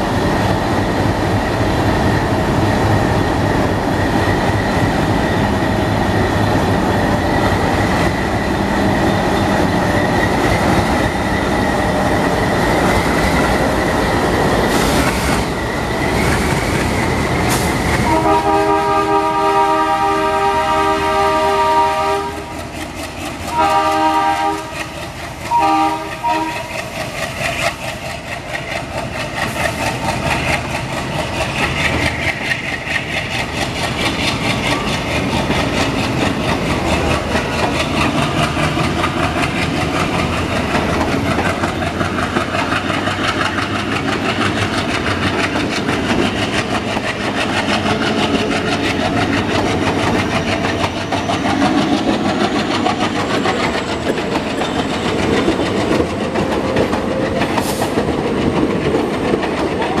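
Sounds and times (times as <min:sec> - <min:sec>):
train wheels clattering on rails: 0:00.0 - 1:00.0.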